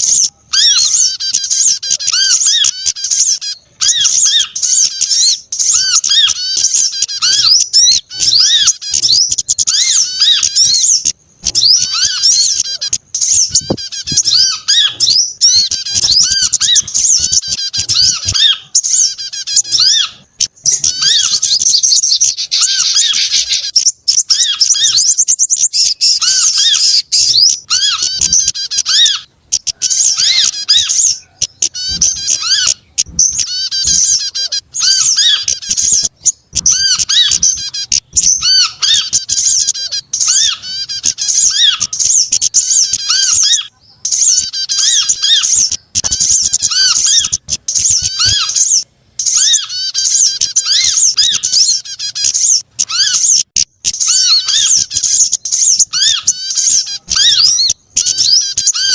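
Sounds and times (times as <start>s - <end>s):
small songbirds chirping and trilling: 0.0s - 58.9s.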